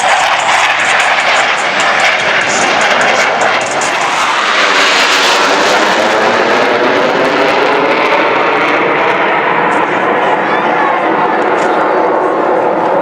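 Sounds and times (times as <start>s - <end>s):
jet flying past: 0.0s - 13.0s.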